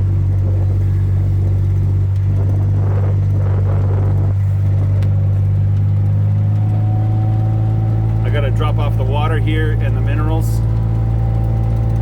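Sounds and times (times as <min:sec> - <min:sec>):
utility vehicle engine humming: 0:00.0 - 0:12.0.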